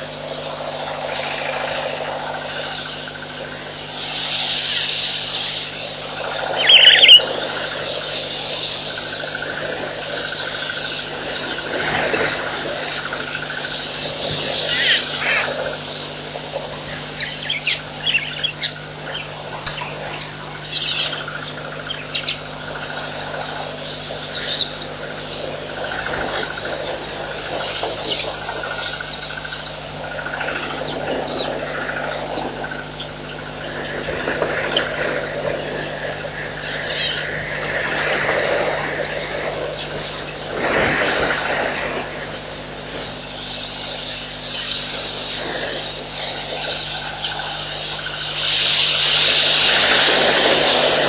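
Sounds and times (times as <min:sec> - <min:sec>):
birds chirping: 0:00.0 - 0:51.0
steady low hum: 0:00.0 - 0:51.0.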